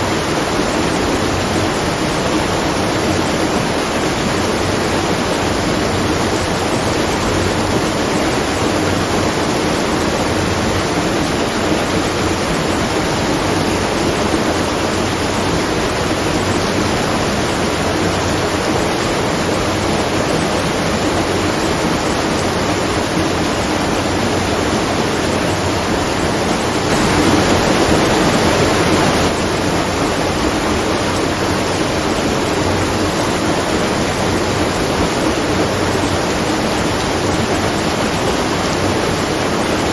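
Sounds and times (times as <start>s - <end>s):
water rushing and splashing: 0.0s - 39.9s.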